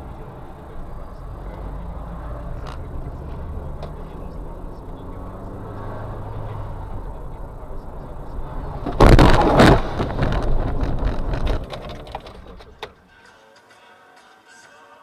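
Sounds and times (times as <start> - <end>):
car road and engine noise: 0.0 - 13.1.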